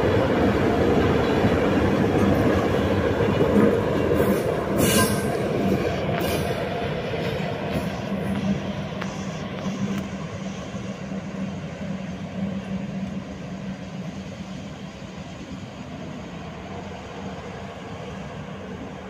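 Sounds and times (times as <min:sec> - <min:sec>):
train rumbling with low hum: 0:00.0 - 0:19.0.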